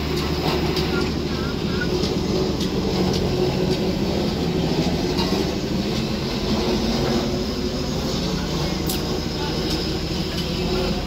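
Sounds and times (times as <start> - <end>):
road roller engine rumbling: 0.0 - 11.0.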